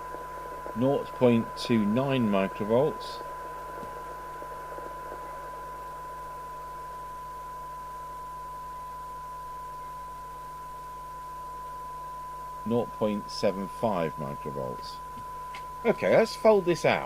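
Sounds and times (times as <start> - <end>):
low mains hum: 0.0 - 17.0
steady test tone with hiss: 0.0 - 17.0.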